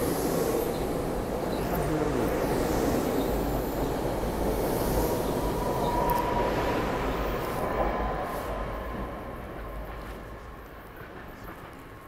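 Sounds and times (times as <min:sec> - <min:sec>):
electric train passing: 0:00.0 - 0:12.0.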